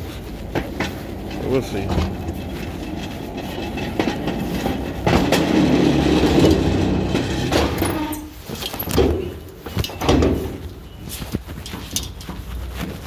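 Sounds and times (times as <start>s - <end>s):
pallet jack wheels rattling: 0.0s - 13.0s.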